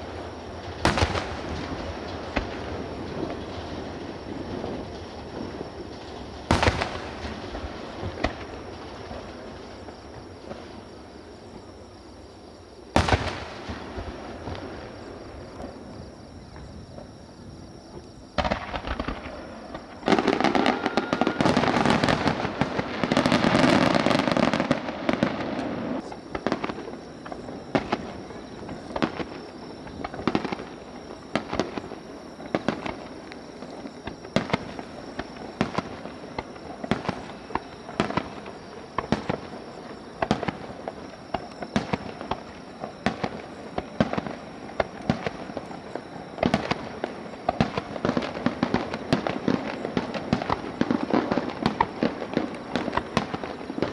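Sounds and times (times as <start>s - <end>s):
fireworks crackling: 0.0s - 53.9s.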